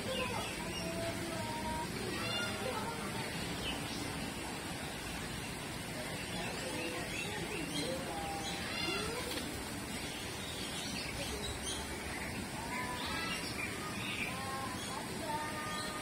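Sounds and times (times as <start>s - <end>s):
birds chirping and calling: 0.0s - 16.0s
steady background noise: 0.0s - 16.0s.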